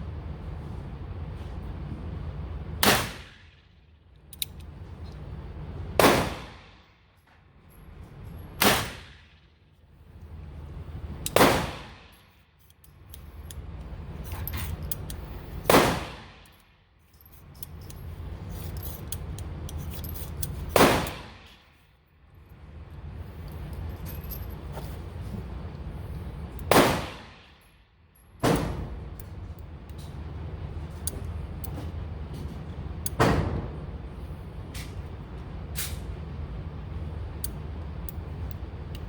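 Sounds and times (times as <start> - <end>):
low steady background hum: 0.0 - 39.0.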